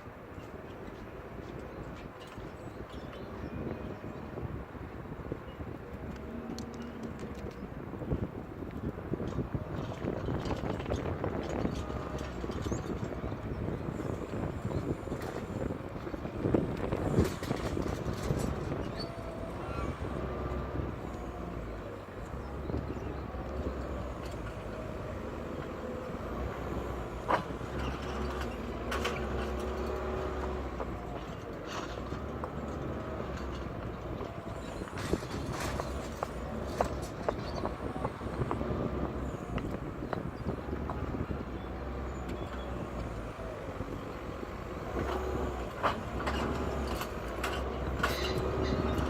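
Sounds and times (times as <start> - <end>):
diesel engine running: 8.9 - 49.0.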